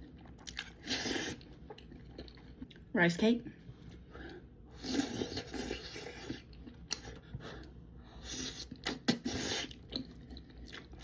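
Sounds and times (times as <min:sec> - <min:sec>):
chewing noodles: 0:00.0 - 0:02.9, 0:03.8 - 0:11.0.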